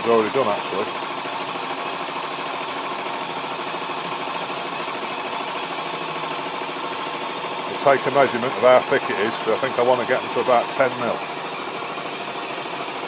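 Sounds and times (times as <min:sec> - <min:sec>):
milling machine cutting steel: 0:00.0 - 0:13.0.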